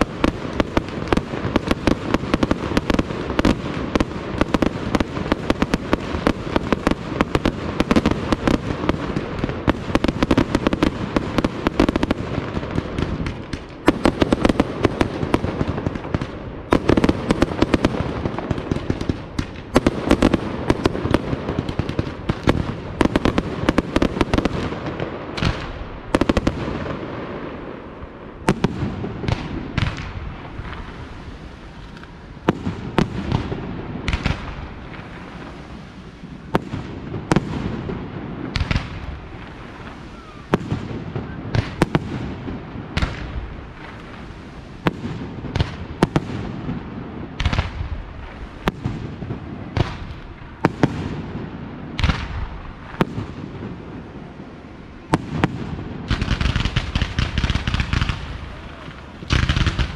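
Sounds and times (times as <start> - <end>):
fireworks bangs: 0.0 - 59.9
fireworks pops and crackles: 0.0 - 59.9.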